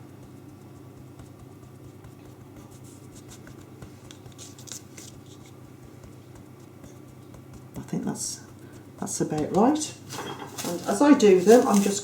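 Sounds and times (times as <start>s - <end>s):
hands rustling shaping dough: 0.0s - 12.0s.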